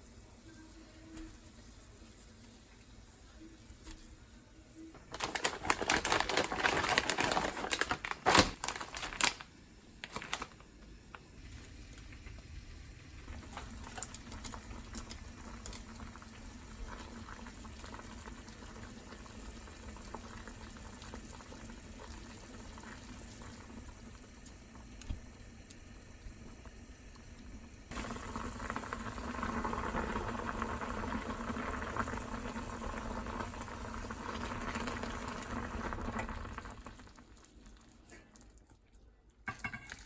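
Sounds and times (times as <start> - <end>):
broth bubbling in a pot: 0.0 - 40.0.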